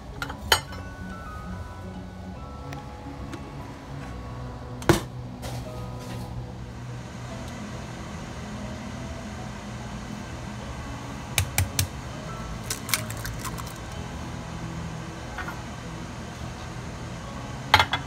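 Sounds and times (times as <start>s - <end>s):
low appliance hum: 0.0s - 18.0s.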